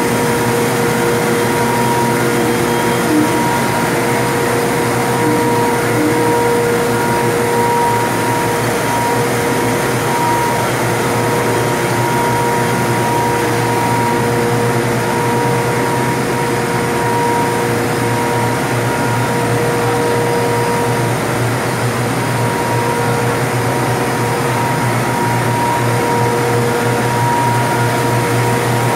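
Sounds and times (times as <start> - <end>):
machinery humming and whining: 0.0 - 28.9.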